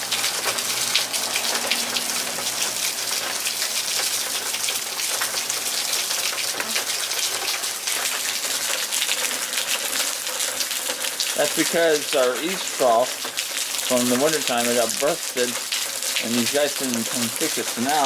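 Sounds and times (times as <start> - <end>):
heavy rain on hard surfaces: 0.0 - 18.0.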